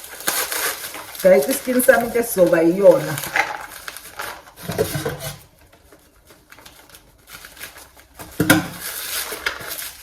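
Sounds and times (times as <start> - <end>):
packaging rubbing and scraping: 0.0 - 10.0.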